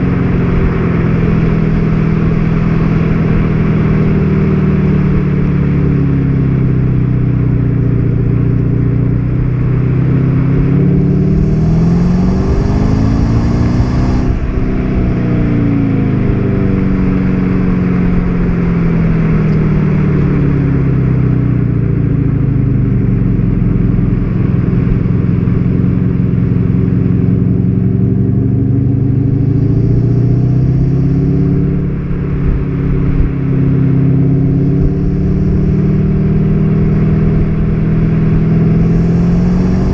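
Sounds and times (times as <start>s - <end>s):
diesel car engine accelerating: 0.0s - 39.9s.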